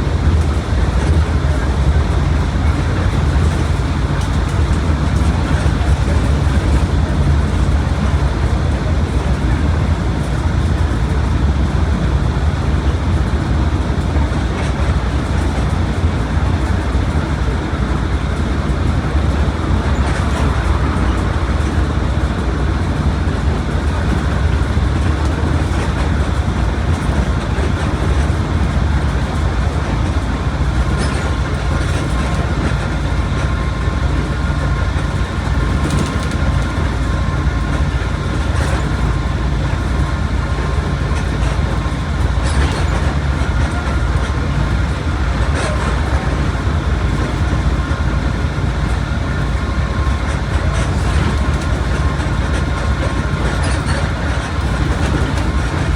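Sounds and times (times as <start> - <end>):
bus engine drone: 0.0 - 55.9
road and tyre noise: 0.0 - 55.9.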